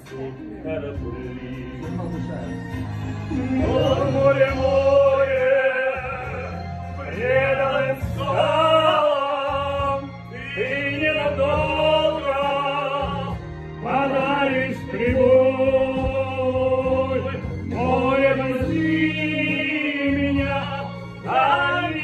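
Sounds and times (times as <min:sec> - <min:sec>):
backing track: 0:00.0 - 0:22.0
operatic male voice singing: 0:03.3 - 0:22.0.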